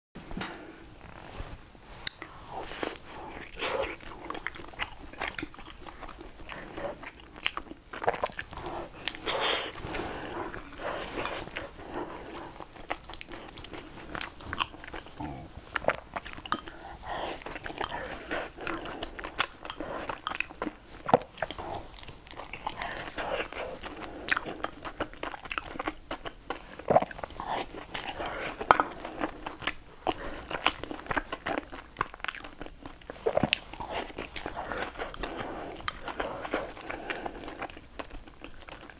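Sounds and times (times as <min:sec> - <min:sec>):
chewing soft food: 0:01.9 - 0:38.9
wet mouth sounds: 0:02.0 - 0:38.9.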